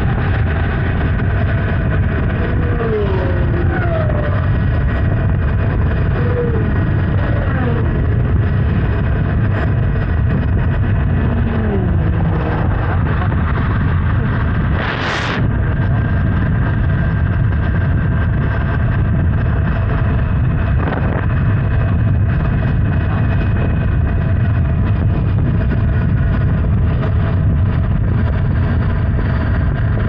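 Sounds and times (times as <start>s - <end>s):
motorcycle engine cruising: 0.0s - 29.6s
wind rushing over microphone: 0.0s - 30.0s.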